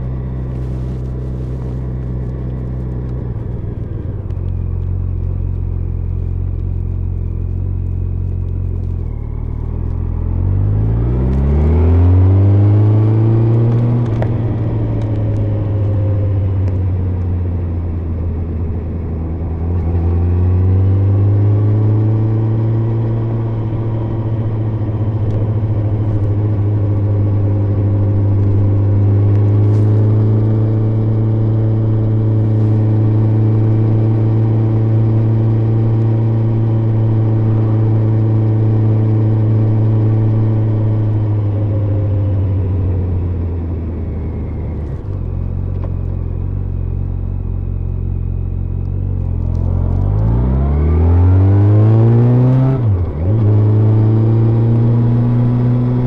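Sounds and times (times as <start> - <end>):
muffled motorcycle engine: 0.0 - 56.0.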